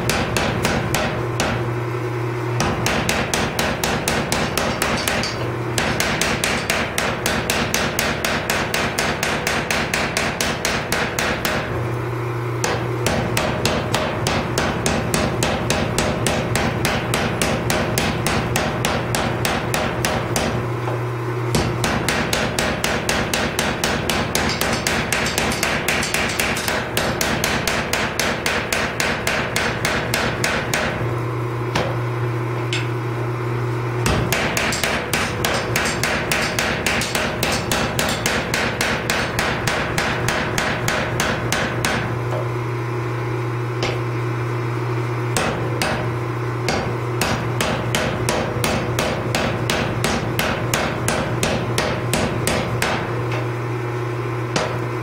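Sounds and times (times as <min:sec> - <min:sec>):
power hammer pounding steel: 0:00.0 - 0:01.7, 0:02.6 - 0:11.9, 0:12.6 - 0:31.1, 0:34.0 - 0:42.5, 0:43.8 - 0:44.1, 0:45.3 - 0:53.6, 0:54.5 - 0:55.0.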